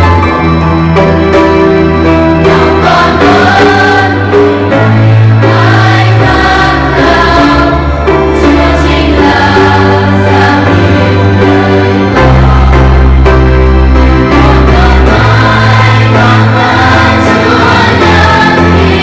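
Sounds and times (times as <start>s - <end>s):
low bass notes: 0.0s - 19.0s
children's choir singing a hymn: 2.0s - 19.0s.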